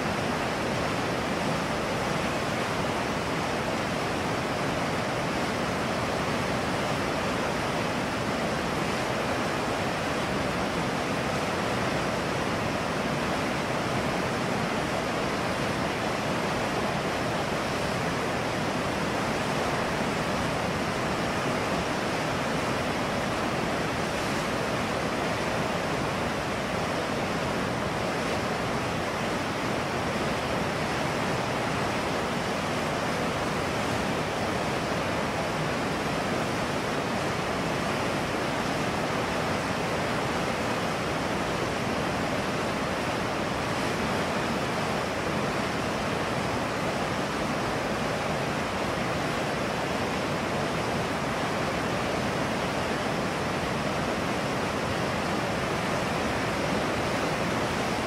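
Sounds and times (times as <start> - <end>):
river rapids rushing over rocks: 0.0 - 58.0.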